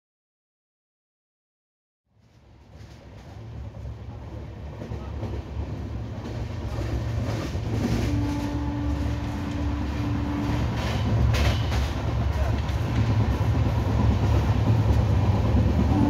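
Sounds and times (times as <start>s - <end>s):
train wheels rumbling on rails: 2.2s - 16.0s.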